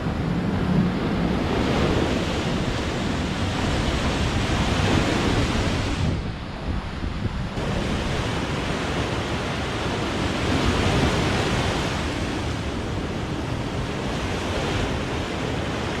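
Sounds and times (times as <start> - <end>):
ocean surf breaking on shore: 0.0 - 16.0
wind on microphone: 0.0 - 16.0.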